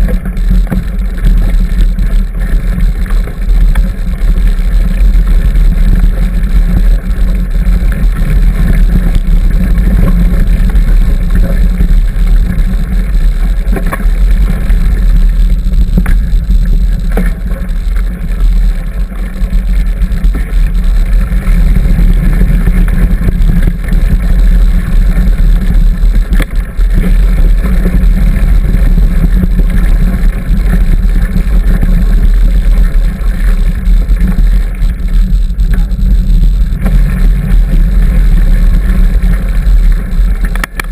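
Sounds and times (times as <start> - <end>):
bike knocks and rattles: 0.0 - 40.9
wind buffeting microphone: 0.0 - 40.9.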